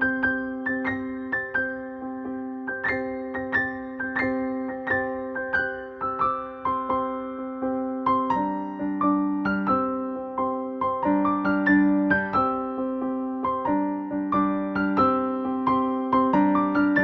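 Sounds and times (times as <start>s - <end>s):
electric piano melody: 0.0s - 17.0s.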